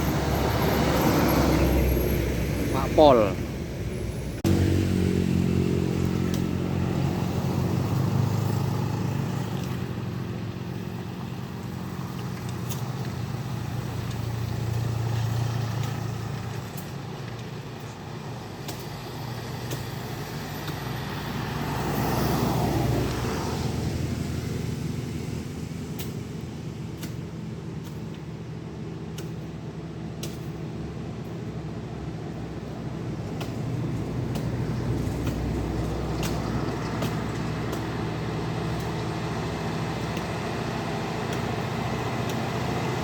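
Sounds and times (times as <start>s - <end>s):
diesel truck engine labouring: 0.0s - 43.0s.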